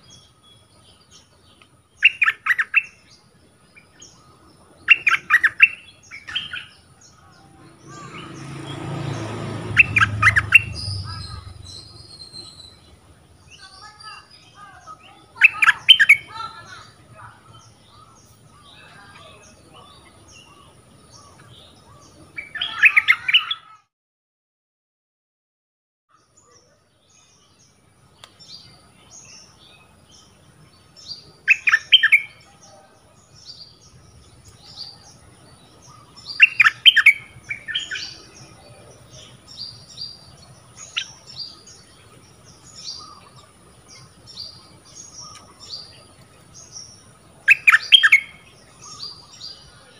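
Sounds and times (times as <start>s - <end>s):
bulbul singing: 0.0s - 23.5s, 28.2s - 49.9s.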